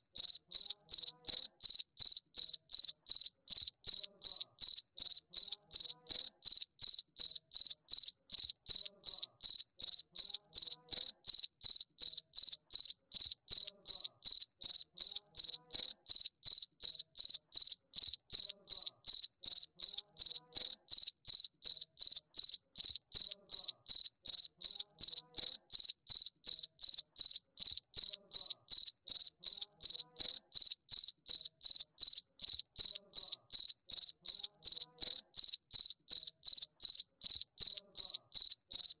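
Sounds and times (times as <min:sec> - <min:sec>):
cricket chirping: 0:00.1 - 0:39.0.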